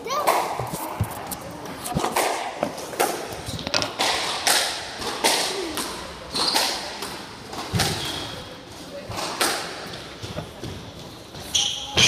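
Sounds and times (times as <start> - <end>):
squash ball hitting rackets and walls: 0.0 - 12.0.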